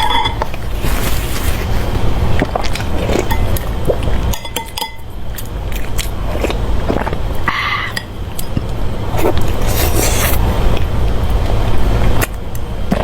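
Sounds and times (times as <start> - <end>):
mouth chewing and crunching: 0.4 - 13.0.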